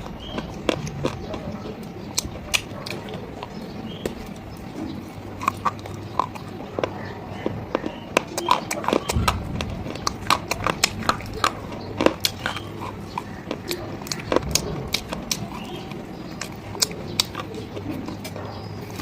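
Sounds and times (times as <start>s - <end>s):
stone being chewed cracking: 0.0s - 19.0s.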